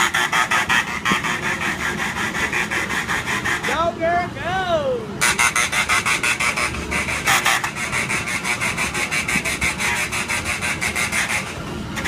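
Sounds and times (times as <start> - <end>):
kiddie ride rasping rattle: 0.0 - 11.6.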